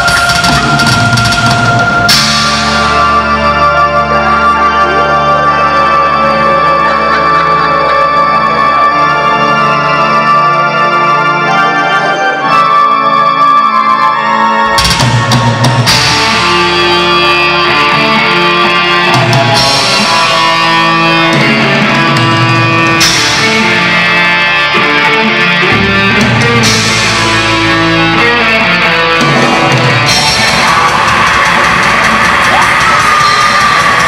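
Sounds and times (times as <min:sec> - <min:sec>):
heavy metal band playing live: 0:00.0 - 0:34.0.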